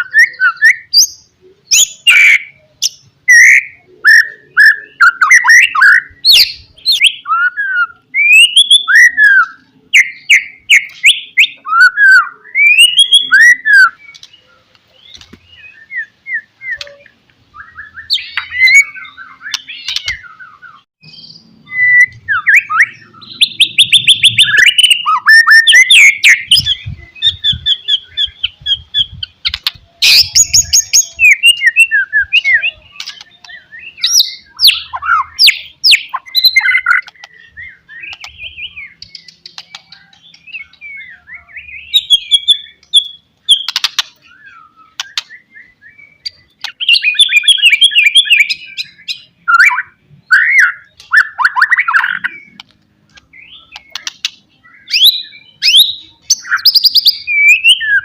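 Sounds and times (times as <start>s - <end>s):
bird singing whistled phrases: 0.0s - 52.6s, 53.3s - 58.0s.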